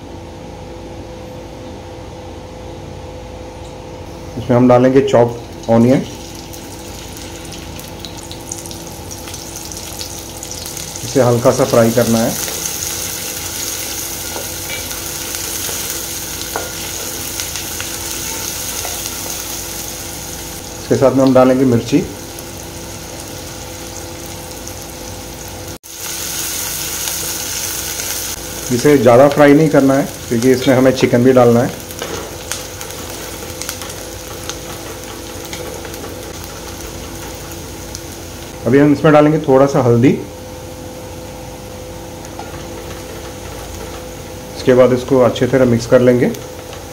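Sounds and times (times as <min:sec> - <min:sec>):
onions sizzling in oil: 0:05.4 - 0:38.6, 0:40.6 - 0:46.9.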